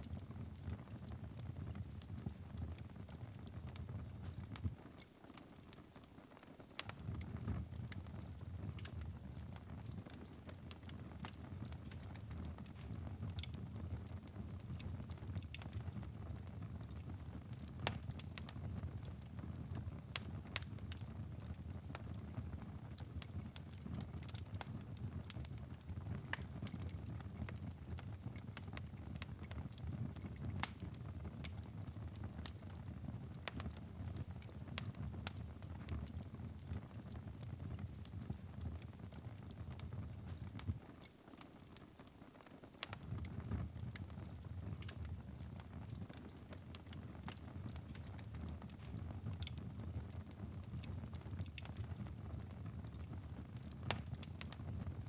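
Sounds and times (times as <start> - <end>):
wood fire crackling: 0.0 - 55.0
low rumble of flames: 6.8 - 40.8, 42.8 - 55.0.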